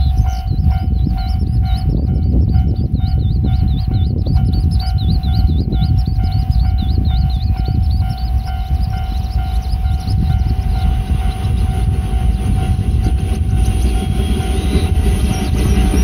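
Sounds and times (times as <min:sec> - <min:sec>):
constant low rumble: 0:00.0 - 0:16.0
electric train approaching: 0:00.0 - 0:16.0.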